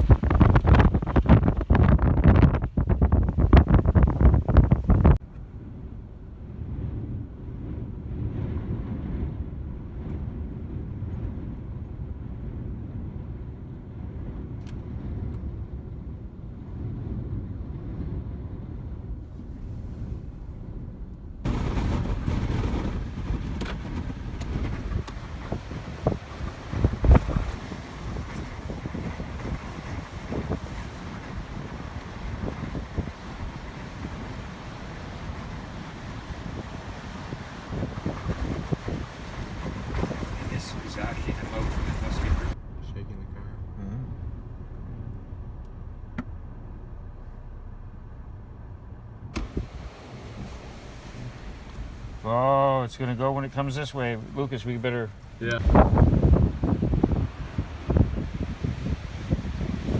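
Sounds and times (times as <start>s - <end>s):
wind buffeting microphone: 0.0s - 42.9s, 44.1s - 59.9s.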